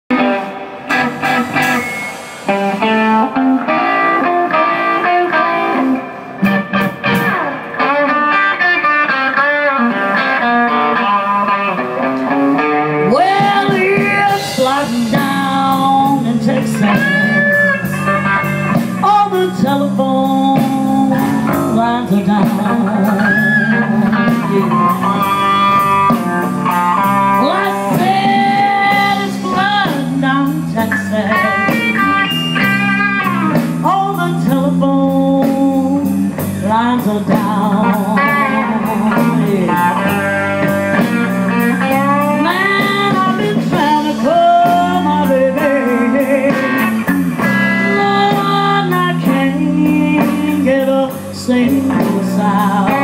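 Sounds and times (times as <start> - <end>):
lead electric guitar bends: 0.1 - 53.0
slow blues band: 0.1 - 53.0.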